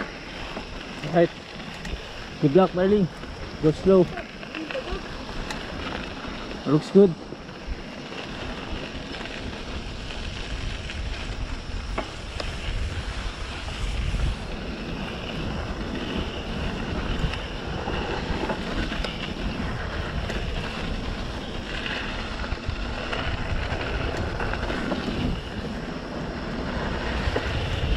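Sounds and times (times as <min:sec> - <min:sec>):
bike clicks and rattles: 0:00.0 - 0:27.9
wind buffeting microphone: 0:00.0 - 0:27.9.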